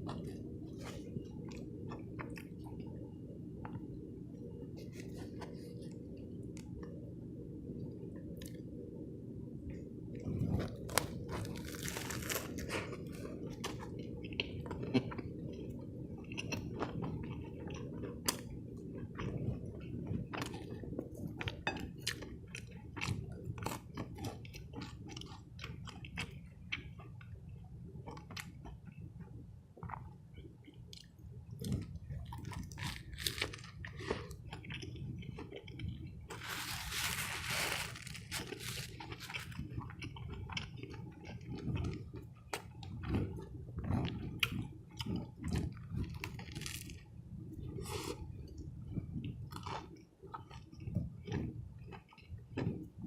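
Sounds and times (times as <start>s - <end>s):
close chewing with crunchy bites: 0.0s - 3.9s, 9.7s - 53.0s
steady low hum: 0.0s - 53.0s.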